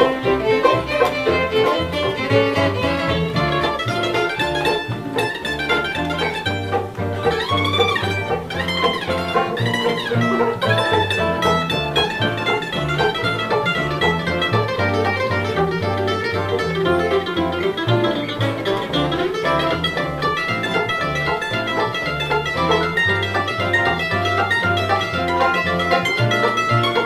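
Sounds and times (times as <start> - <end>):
mandolin picking: 0.0 - 27.0
strummed acoustic guitar: 0.0 - 27.0
upright bass walking: 0.0 - 27.0.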